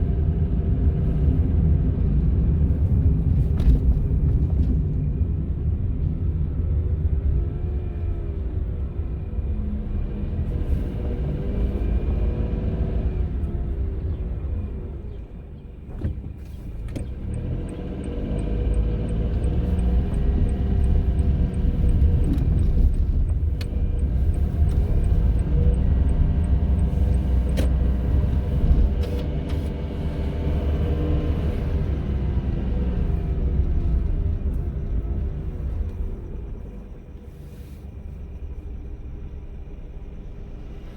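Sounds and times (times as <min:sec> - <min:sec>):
car engine: 0:00.0 - 0:40.9
road rumble: 0:00.0 - 0:40.9.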